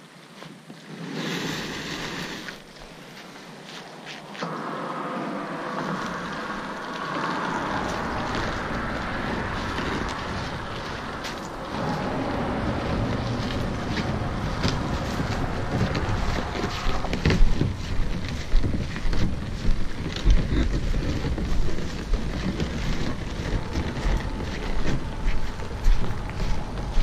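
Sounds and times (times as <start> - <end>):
boat hull rolling over gravel: 0.3 - 27.0
feet shuffling: 2.5 - 27.0
wind buffeting microphone: 2.6 - 27.0.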